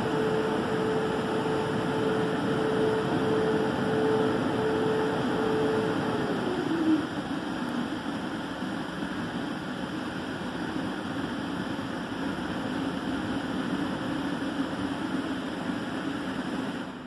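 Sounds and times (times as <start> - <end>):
low motor hum: 0.0 - 16.9.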